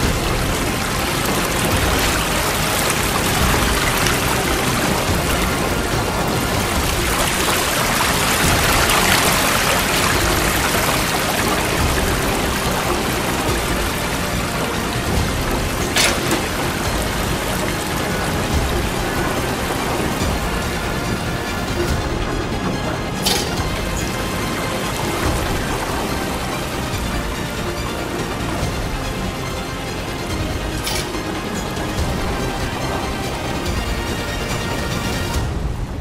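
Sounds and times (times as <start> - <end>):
water splashing into cistern: 0.0 - 35.9.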